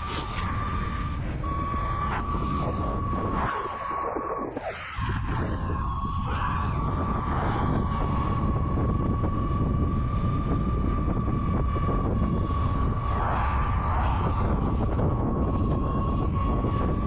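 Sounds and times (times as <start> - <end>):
electric motor whining: 0.0 - 17.0
wind on microphone: 0.0 - 17.0.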